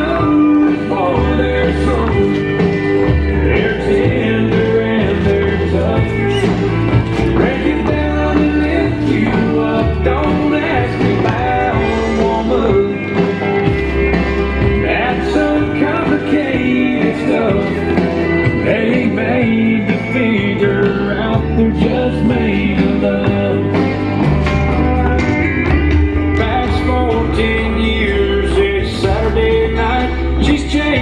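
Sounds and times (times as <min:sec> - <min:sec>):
bass line: 0:00.0 - 0:31.0
country song with singing: 0:00.0 - 0:31.0.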